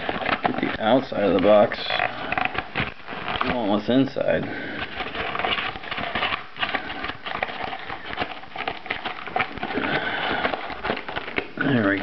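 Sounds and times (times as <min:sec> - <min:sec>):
cardboard box crackling and scraping: 0:00.0 - 0:12.0.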